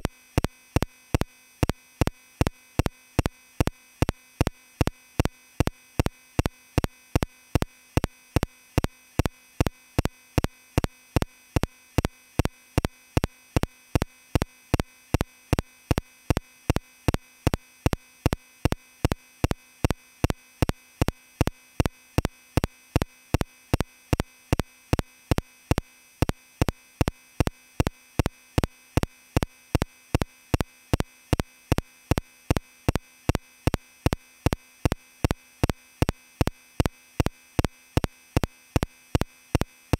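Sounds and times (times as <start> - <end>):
sharp electronic ticks: 0.0 - 39.9.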